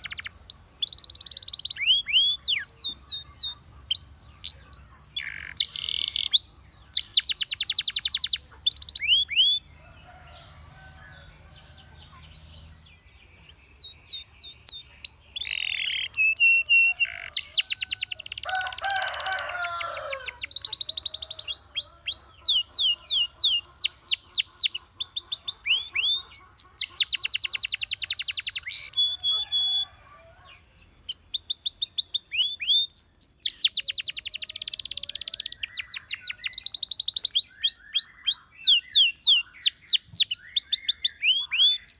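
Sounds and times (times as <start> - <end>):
canary singing trills and whistles: 0.0 - 10.1, 13.2 - 41.9.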